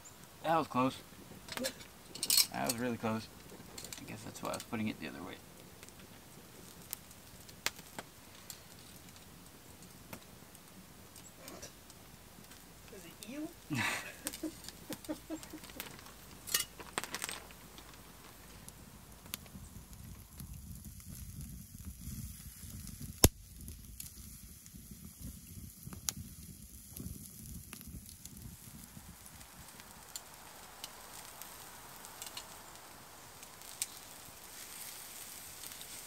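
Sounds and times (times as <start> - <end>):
campfire crackling and popping: 0.0 - 36.0
meat sizzling on a grill: 0.0 - 36.0.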